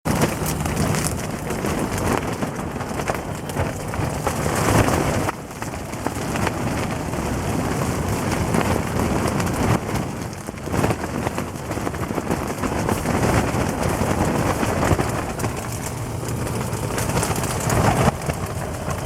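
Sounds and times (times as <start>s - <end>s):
strong wind buffeting a tent: 0.0s - 19.0s
tent fabric flapping and rattling: 0.0s - 19.0s.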